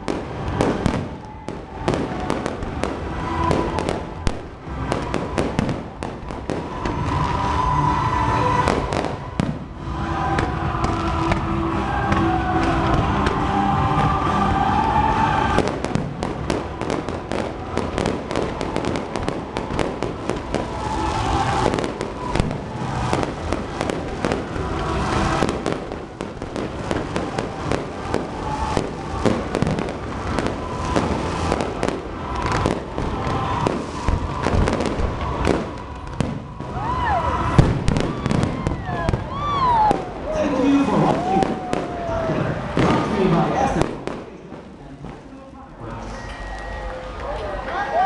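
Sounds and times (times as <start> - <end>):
fireworks bangs and crackling: 0.0 - 45.6.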